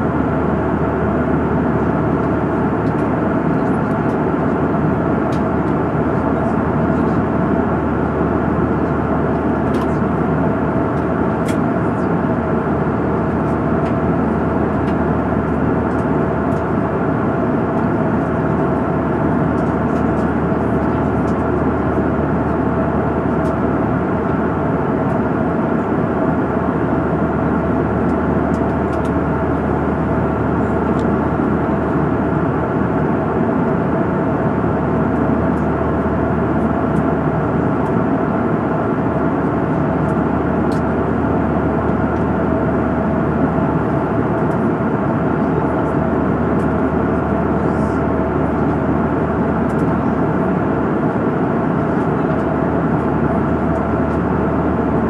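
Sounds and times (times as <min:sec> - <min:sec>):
airliner cabin engine and airflow rush: 0:00.0 - 0:55.0.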